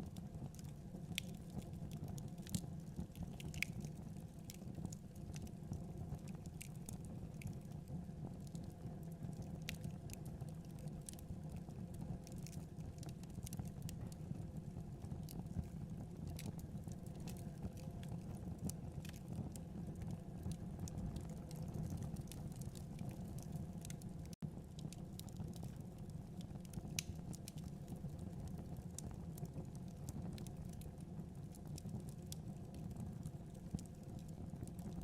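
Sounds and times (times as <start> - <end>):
wood fire crackling in fireplace: 0.0 - 35.0.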